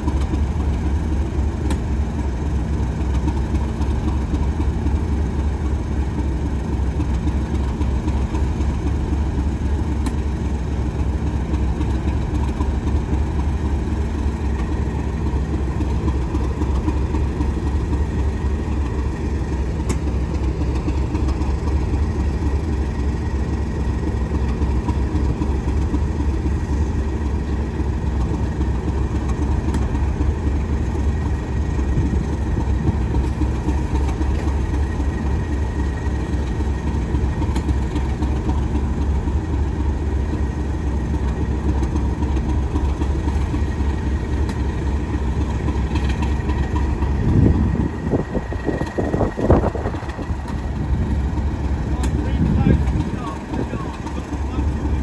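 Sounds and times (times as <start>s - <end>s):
heavy engine idling: 0.0s - 55.0s.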